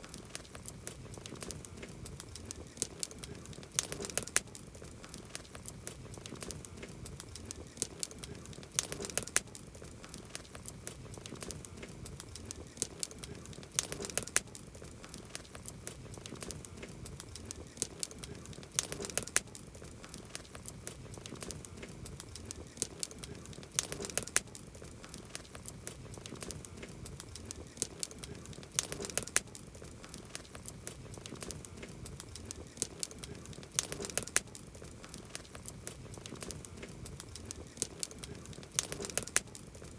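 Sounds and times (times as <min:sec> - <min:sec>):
campfire crackling: 0:00.0 - 0:39.9
loud pops of burning wood: 0:00.1 - 0:39.9.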